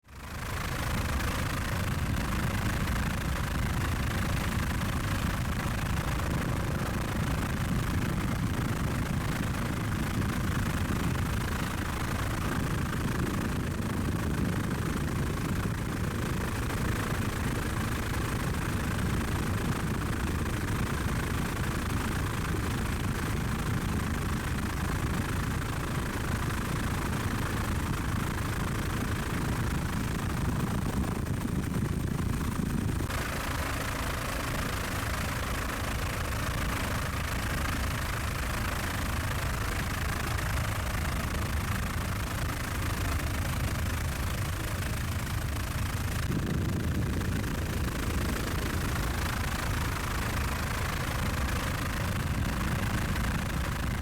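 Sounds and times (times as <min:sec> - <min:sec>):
helicopter in flight: 0:00.0 - 0:54.0.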